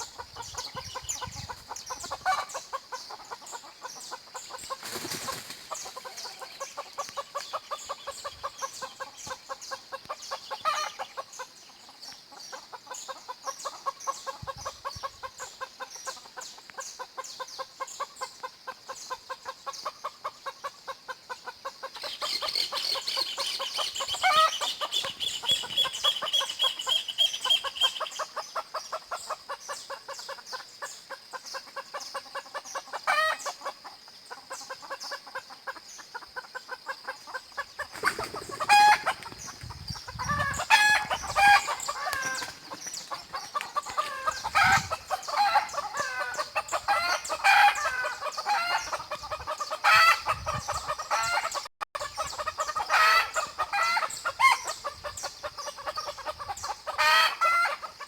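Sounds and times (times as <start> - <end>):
chickens clucking: 0.0 - 58.0
small birds chattering: 0.0 - 58.0.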